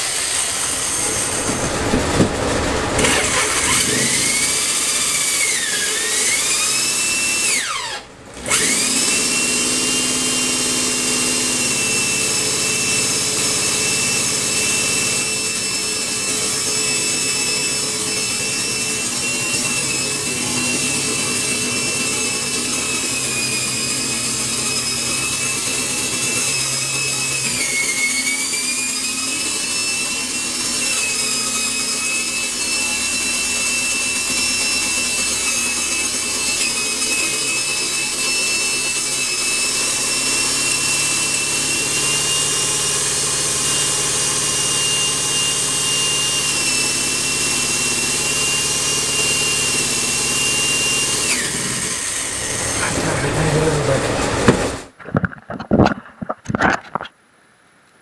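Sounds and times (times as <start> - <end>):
power tool motor whining: 0.0 - 55.0.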